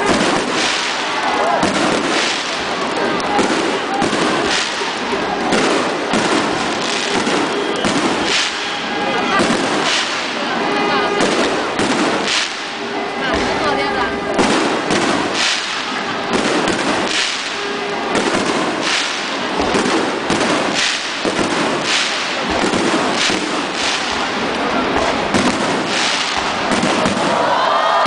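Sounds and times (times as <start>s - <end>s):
fireworks bursting with sharp bangs: 0.0s - 28.0s.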